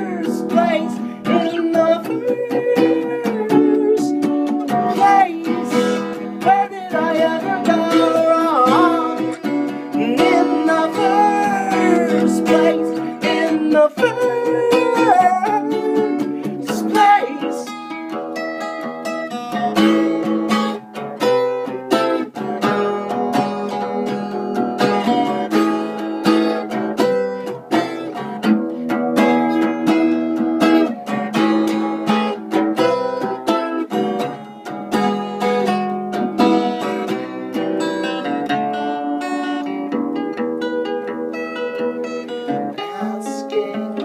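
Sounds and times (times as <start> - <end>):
acoustic string instrument strummed: 0.0 - 44.0.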